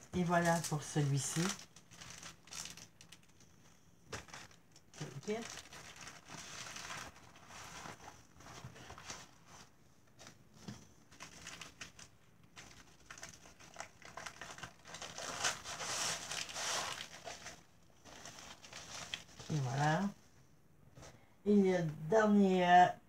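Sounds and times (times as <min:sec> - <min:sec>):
plastic bags crinkling: 0:00.0 - 0:10.5, 0:11.1 - 0:20.1.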